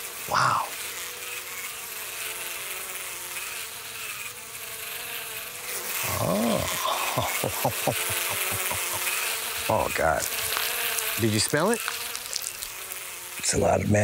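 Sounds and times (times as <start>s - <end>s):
flies buzzing: 0.0s - 14.0s.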